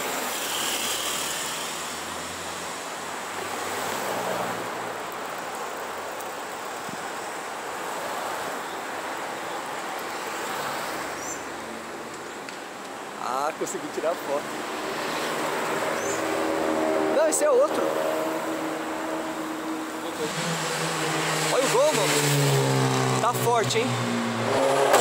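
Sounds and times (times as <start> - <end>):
cars passing: 0.0 - 25.0.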